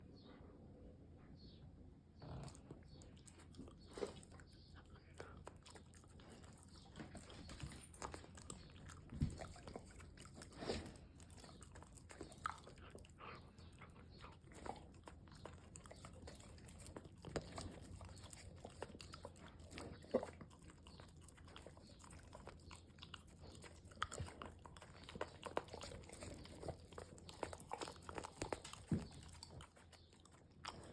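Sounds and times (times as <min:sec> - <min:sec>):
dog licking and smacking: 0:02.5 - 0:30.9.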